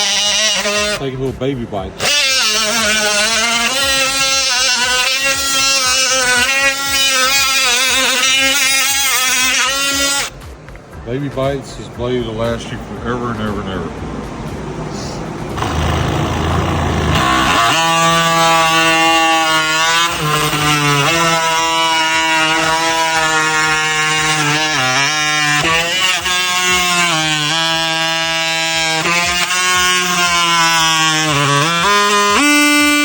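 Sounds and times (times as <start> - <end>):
oscillating multitool cutting wood: 0.0 - 10.6, 15.1 - 33.0.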